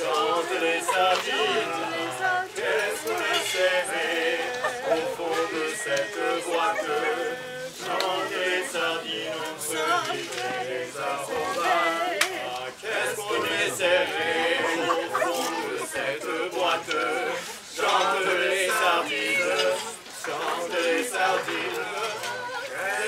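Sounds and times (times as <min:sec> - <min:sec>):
voices singing: 0:00.0 - 0:23.0.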